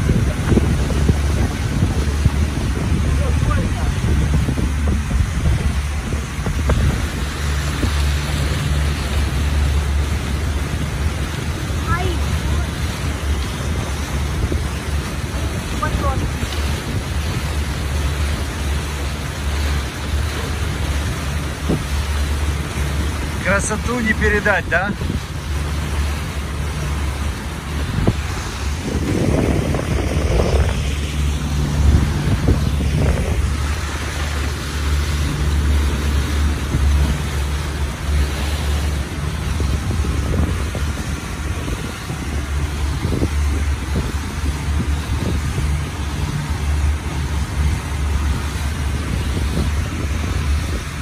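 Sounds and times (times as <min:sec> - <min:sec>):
motorboat engine droning: 0:00.0 - 0:51.0
water rushing past hull: 0:00.0 - 0:51.0
wind buffeting microphone: 0:00.0 - 0:51.0.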